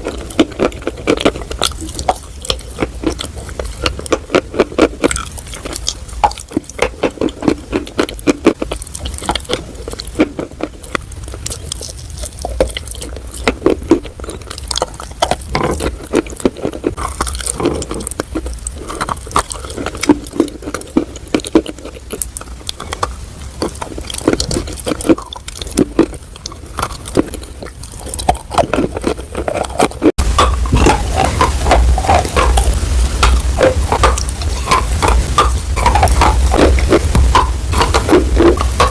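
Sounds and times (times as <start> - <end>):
chewing crunchy chalk: 0.0 - 38.9.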